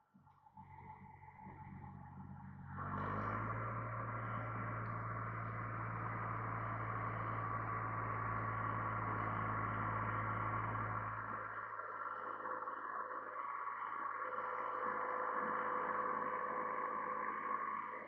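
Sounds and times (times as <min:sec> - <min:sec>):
tractor engine running: 0:01.3 - 0:18.0.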